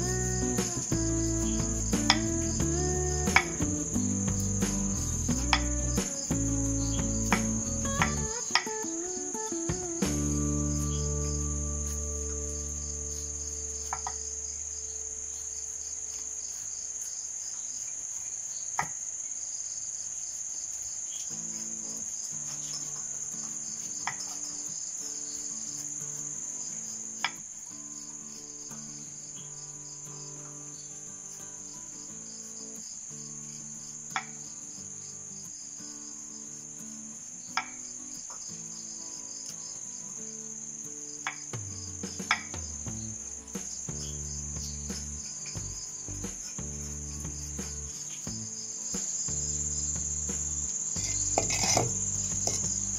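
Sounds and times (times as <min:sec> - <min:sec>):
crickets chirring: 0:00.0 - 0:52.9.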